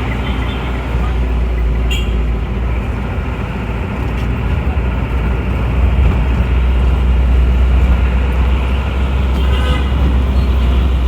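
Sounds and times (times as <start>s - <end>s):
vehicle engines in street traffic: 0.0s - 11.0s.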